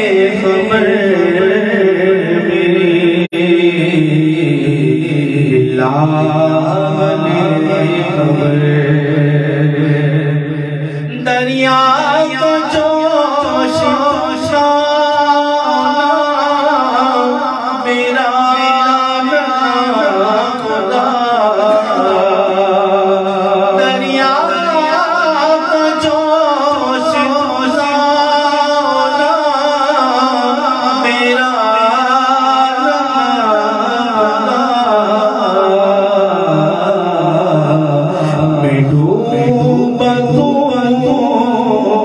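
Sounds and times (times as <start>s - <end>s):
man singing into a microphone: 0.0s - 42.0s.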